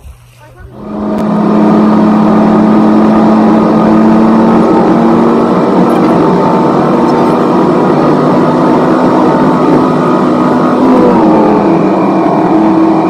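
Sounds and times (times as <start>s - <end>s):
road noise: 0.5s - 13.0s
car engine drone: 0.7s - 13.0s.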